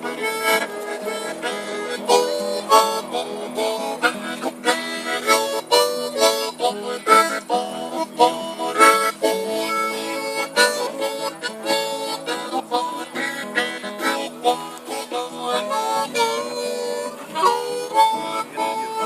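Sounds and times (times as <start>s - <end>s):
harmonica melody: 0.0s - 19.0s
strummed guitar: 0.0s - 19.0s.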